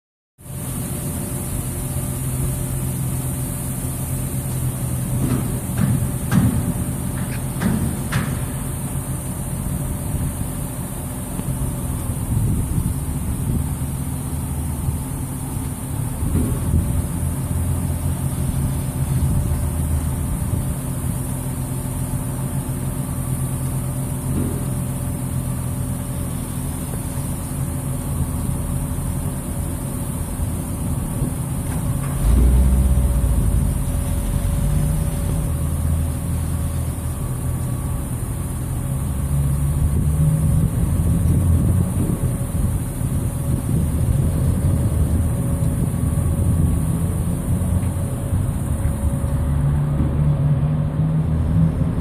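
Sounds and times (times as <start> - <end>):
crane engine running: 0.4 - 52.0.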